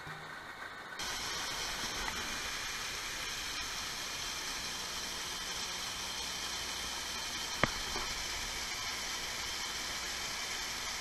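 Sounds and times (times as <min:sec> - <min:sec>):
waterfall rushing: 0:01.0 - 0:11.0.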